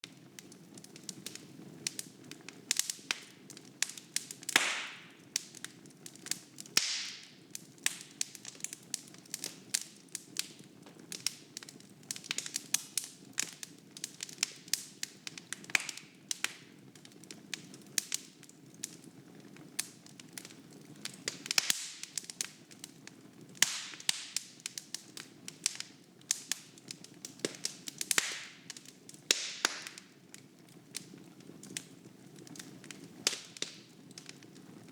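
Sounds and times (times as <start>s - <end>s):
logs crackling and popping: 0.0s - 34.9s.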